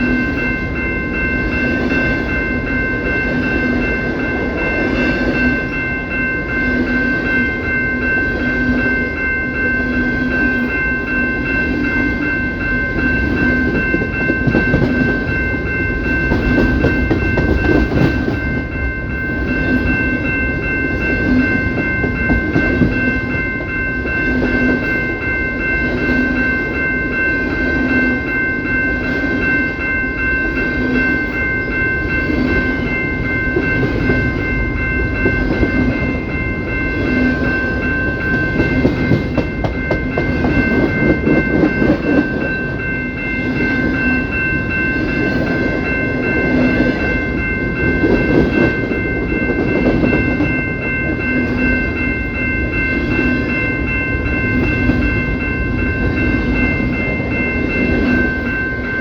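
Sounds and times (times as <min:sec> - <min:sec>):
steady high-pitched tones: 0:00.0 - 0:59.0
train cars rumbling past: 0:00.0 - 0:59.0.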